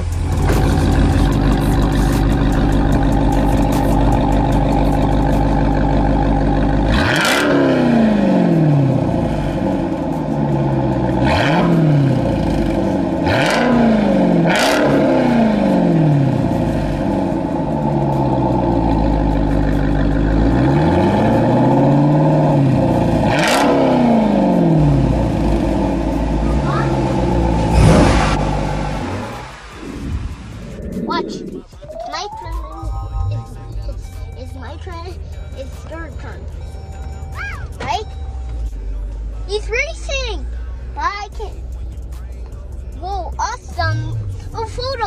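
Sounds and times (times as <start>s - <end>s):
car engine idling and revving: 0.0s - 45.0s.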